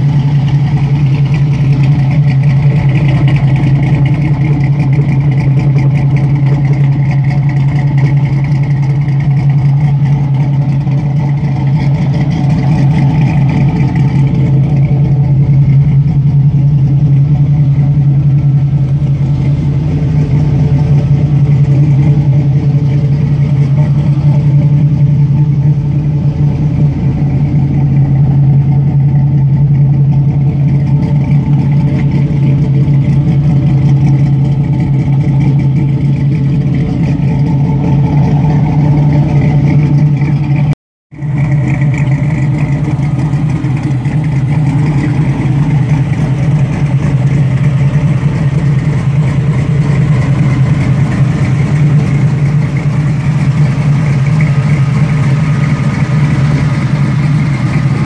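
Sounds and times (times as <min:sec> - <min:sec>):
car engine idling loudly: 0:00.0 - 0:58.0.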